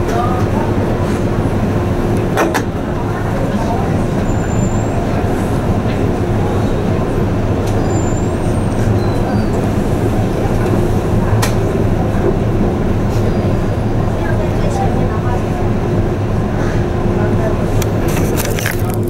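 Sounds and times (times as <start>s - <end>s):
ship engine hum: 0.0s - 19.0s.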